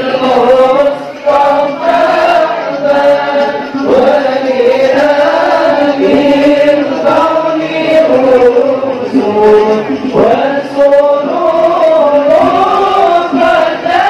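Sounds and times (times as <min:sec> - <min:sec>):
voices chanting devotional praise: 0:00.0 - 0:14.0.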